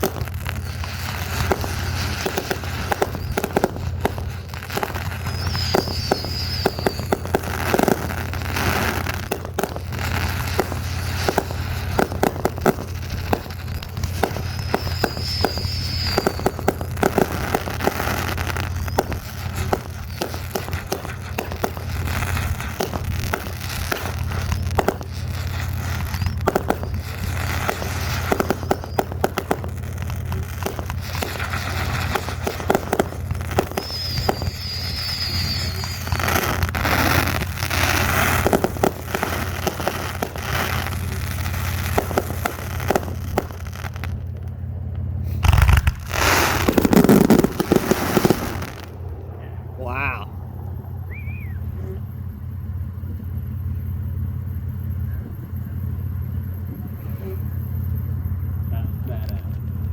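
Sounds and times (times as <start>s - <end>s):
fireworks crackling pops: 0.0s - 49.2s
firework high whistles: 0.0s - 59.9s.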